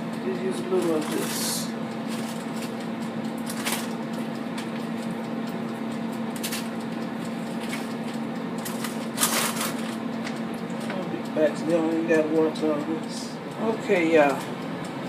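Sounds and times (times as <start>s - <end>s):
air fryer hum and fan: 0.0s - 15.0s.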